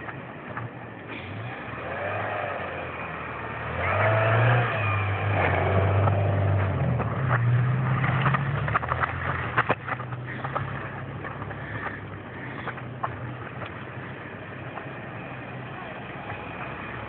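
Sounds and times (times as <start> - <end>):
car engine revving: 0.0 - 17.0
wheels spinning in snow: 0.0 - 17.0.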